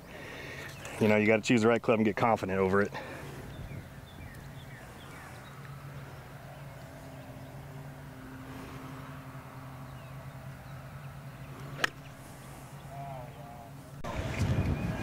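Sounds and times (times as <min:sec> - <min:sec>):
low motor hum: 0:02.7 - 0:15.0.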